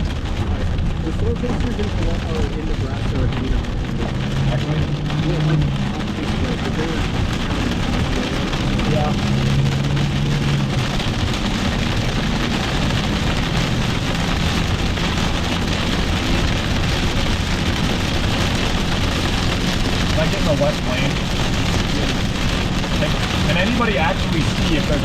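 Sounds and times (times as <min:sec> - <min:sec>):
car road and engine hum: 0:00.0 - 0:25.0
heavy rain on a car: 0:00.0 - 0:25.0.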